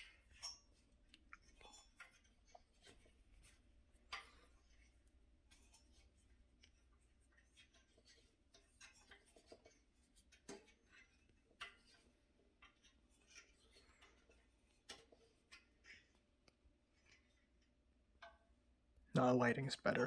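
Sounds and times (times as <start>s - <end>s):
desk parts clicking and scraping: 0.0s - 17.7s.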